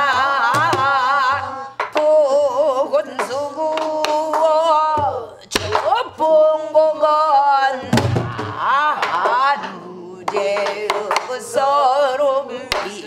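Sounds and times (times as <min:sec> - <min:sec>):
woman singing long wavering notes: 0:00.0 - 0:13.0.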